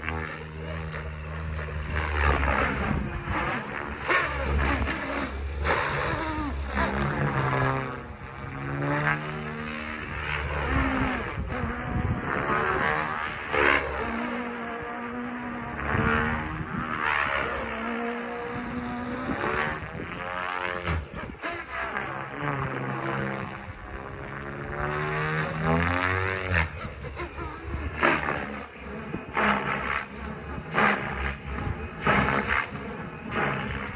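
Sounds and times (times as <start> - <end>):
rc helicopter rotor and motor whine: 0.0 - 33.9.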